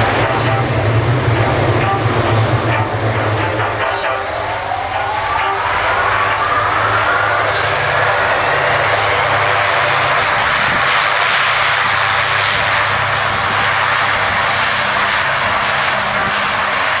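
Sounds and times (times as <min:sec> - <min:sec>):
turboprop engines roaring: 0:00.0 - 0:17.0.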